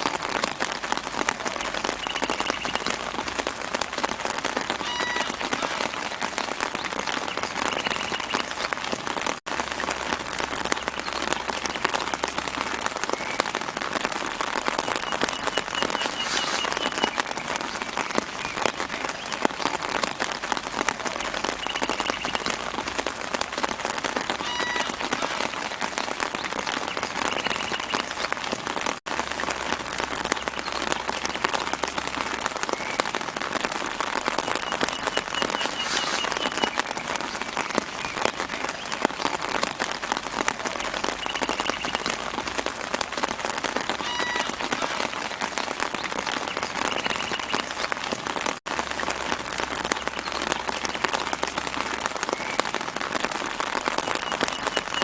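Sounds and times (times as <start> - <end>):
light rain pattering on leaves: 0.0 - 55.0.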